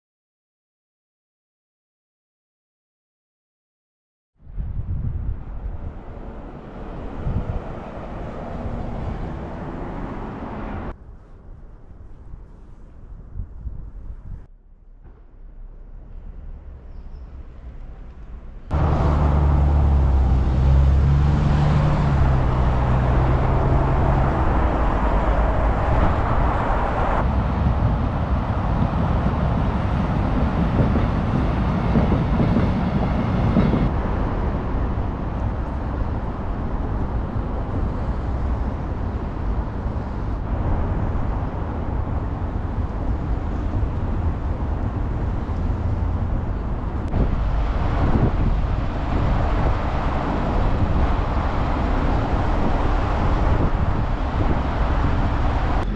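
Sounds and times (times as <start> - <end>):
traffic rumble: 4.4 - 55.9
heavy engine humming: 5.2 - 11.0, 14.5 - 55.9.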